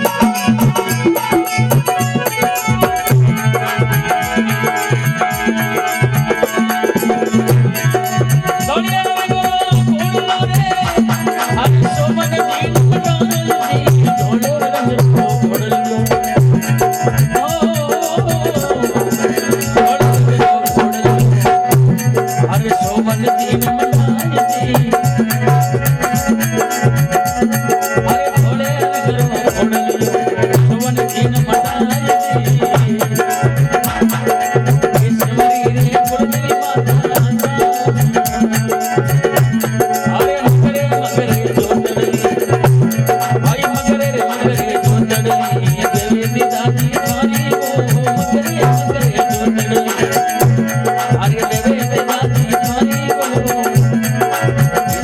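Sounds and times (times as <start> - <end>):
hand drum beat: 0.0 - 55.0.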